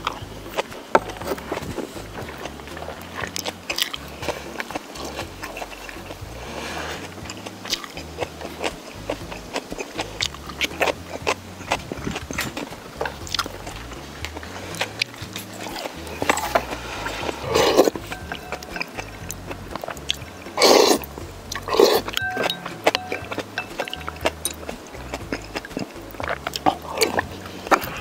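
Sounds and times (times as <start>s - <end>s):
man chewing food: 0.0s - 28.0s
wet mouth sounds: 0.0s - 28.0s.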